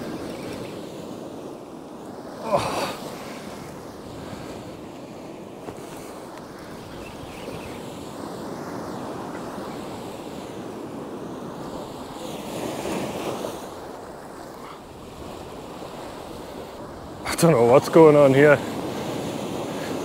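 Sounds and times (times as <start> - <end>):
waves surging against rocks: 0.0 - 20.0
wind: 0.0 - 20.0.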